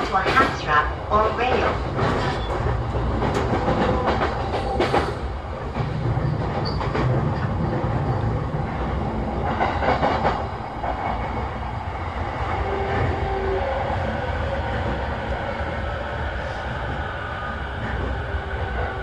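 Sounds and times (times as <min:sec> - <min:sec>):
train clatter: 0:00.0 - 0:15.9
train wheels rumbling on rail: 0:00.0 - 0:19.0.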